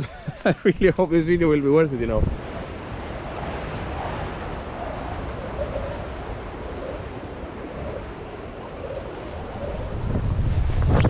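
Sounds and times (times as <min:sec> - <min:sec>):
wind blowing over microphone: 0:00.0 - 0:11.0.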